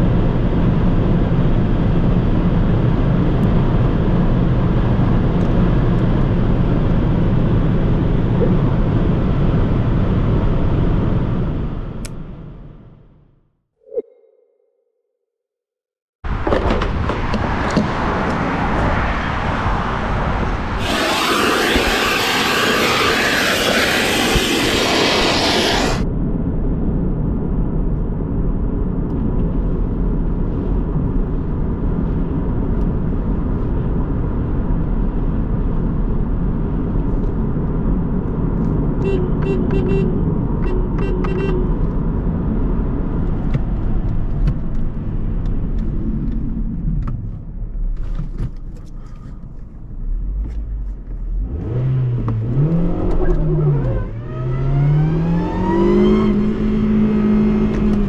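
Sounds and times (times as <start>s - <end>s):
road noise: 0.0s - 14.6s, 16.2s - 58.0s
car engine drone: 0.0s - 14.8s, 16.3s - 58.0s.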